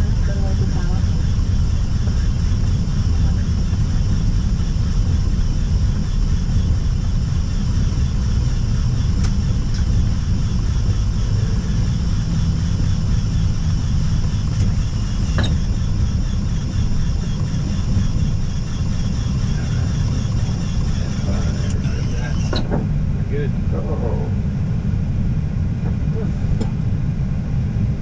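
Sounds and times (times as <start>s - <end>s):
aircraft cockpit low rumble: 0.0s - 28.0s.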